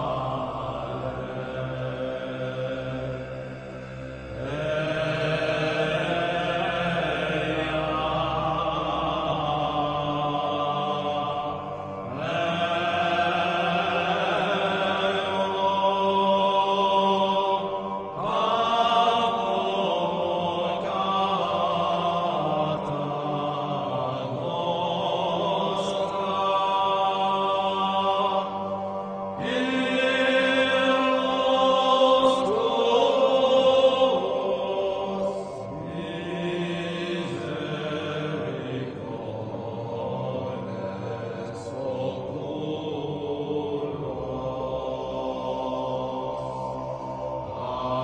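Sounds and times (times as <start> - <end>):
music with chant-like vocals: 0.0 - 48.0.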